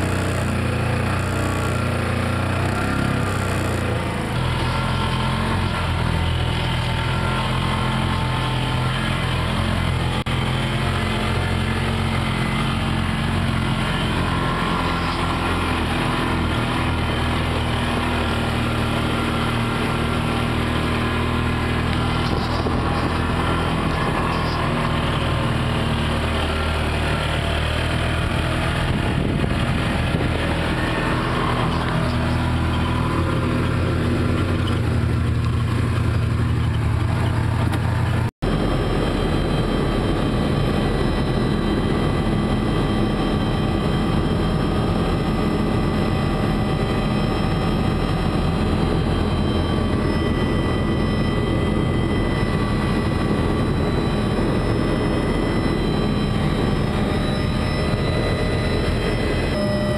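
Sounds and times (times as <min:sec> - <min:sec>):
road and wind noise: 0:00.0 - 0:59.9
truck engine running: 0:00.0 - 0:59.9.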